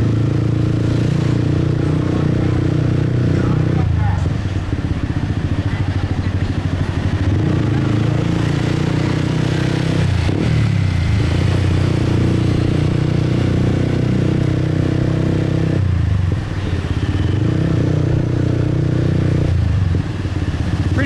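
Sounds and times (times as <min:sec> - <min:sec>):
motorbike engine running: 0:00.0 - 0:21.0.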